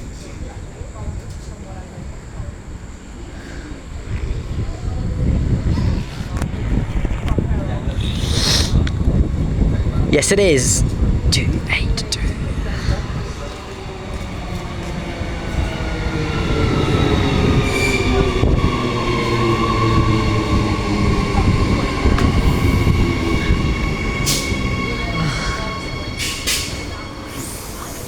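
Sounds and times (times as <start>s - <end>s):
loud train rumble: 1.5s - 28.0s.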